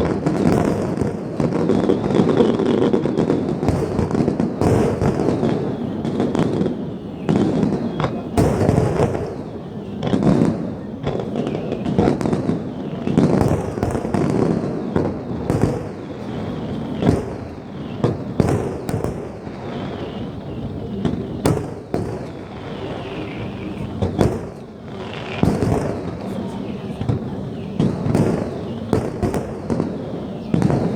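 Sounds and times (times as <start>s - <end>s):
fireworks bursting: 0.0s - 30.9s.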